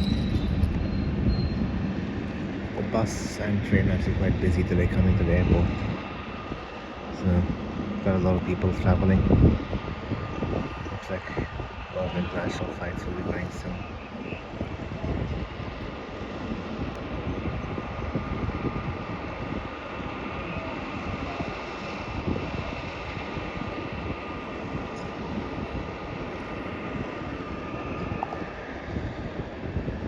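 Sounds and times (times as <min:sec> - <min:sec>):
jet engine whine and rumble: 0:00.0 - 0:30.0
wind buffeting microphone: 0:00.0 - 0:30.0.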